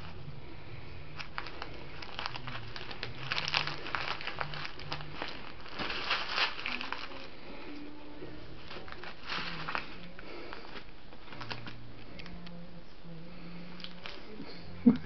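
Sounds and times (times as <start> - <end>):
crinkly bag rustling: 1.1 - 12.6, 13.8 - 14.8.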